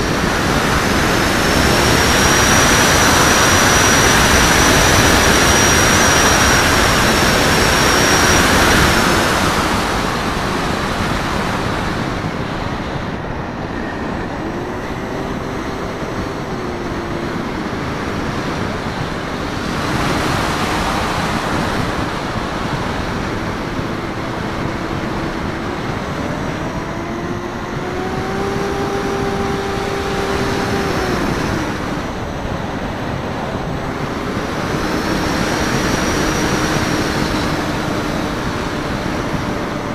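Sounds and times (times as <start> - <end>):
electric motor and propeller whine: 0.0 - 39.9
wind rushing over camera: 0.0 - 39.9.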